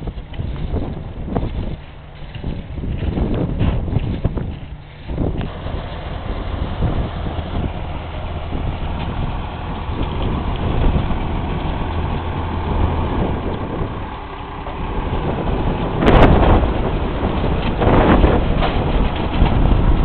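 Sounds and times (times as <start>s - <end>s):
tractor engine idling: 0.0s - 20.0s
wind on microphone: 0.0s - 20.0s.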